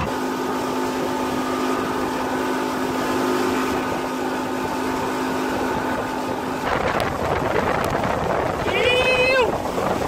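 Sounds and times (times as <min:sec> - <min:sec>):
churning wake rushing: 0:00.0 - 0:10.0
outboard motor drone: 0:00.0 - 0:10.0.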